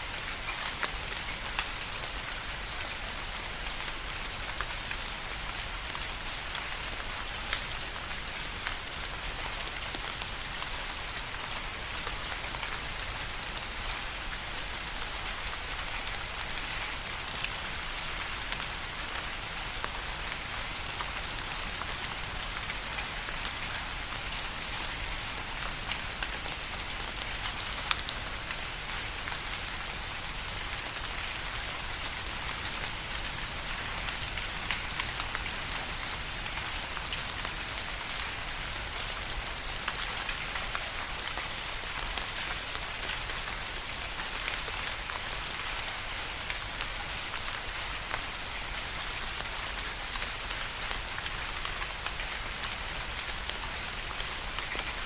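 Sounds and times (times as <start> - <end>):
steady rain hiss: 0.0 - 55.0
raindrops ticking on a surface: 0.1 - 55.0.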